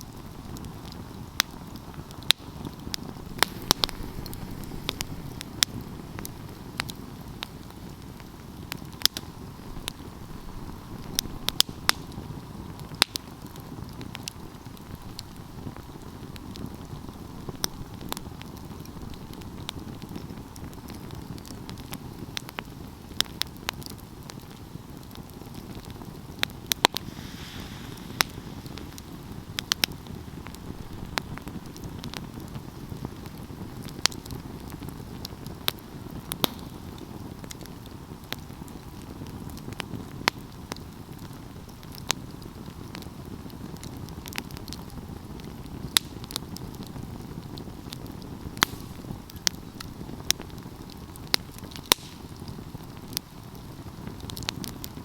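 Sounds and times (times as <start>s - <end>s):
fire crackles and pops: 0.0s - 55.0s
low rumble of flames: 0.0s - 55.0s.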